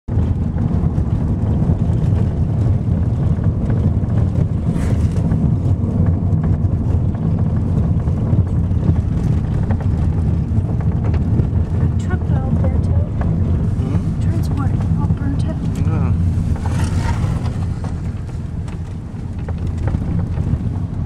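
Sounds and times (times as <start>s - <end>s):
engine and tyre rumble: 0.1s - 21.0s
small knocks and rattles: 0.2s - 13.7s, 16.4s - 21.0s.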